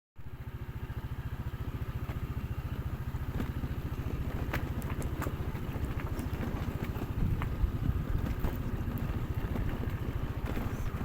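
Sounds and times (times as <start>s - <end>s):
motorcycle engine running: 0.2s - 11.0s.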